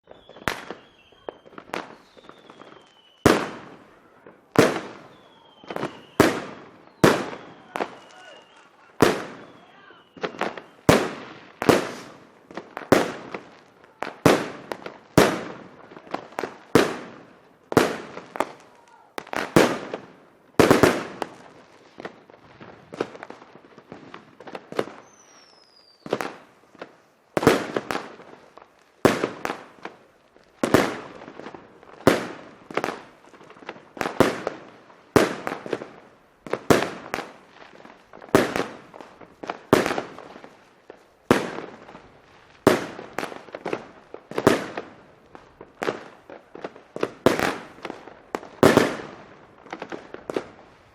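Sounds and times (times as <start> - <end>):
firecrackers banging: 0.4 - 25.1, 30.6 - 50.9.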